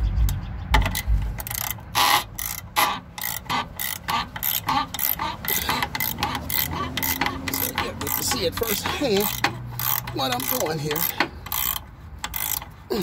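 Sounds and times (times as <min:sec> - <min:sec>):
ratchet wrench clicking: 0:00.8 - 0:13.0.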